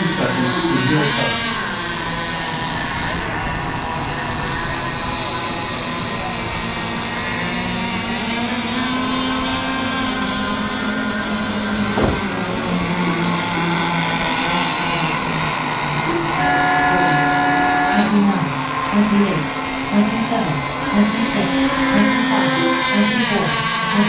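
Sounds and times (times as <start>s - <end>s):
model boat engines racing: 0.0s - 24.0s.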